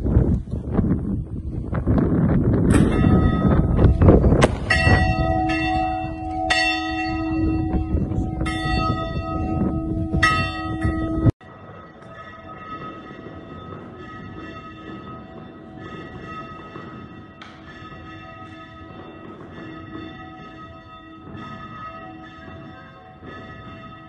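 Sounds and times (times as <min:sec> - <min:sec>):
rumbling noise: 0:00.0 - 0:24.0
church bell ringing: 0:02.7 - 0:24.0.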